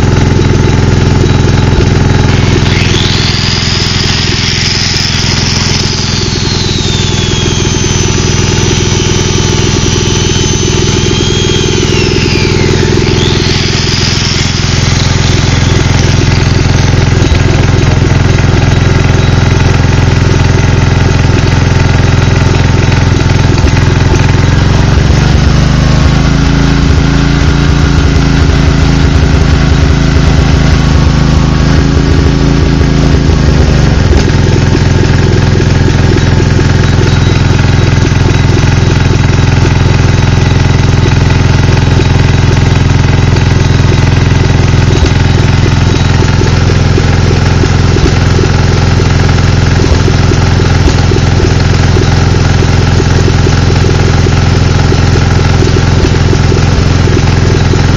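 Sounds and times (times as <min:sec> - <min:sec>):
generator engine running unevenly: 0:00.0 - 0:57.9
high whine sliding in pitch: 0:00.0 - 0:57.9.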